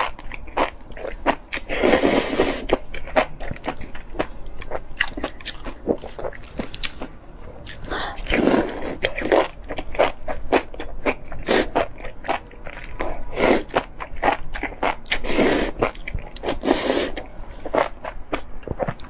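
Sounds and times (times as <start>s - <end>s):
person chewing and crunching: 0.0s - 19.0s.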